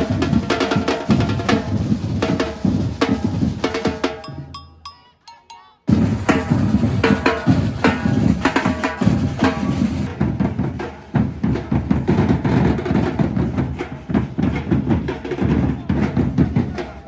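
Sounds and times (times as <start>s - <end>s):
percussion group drumming: 0.0s - 17.0s.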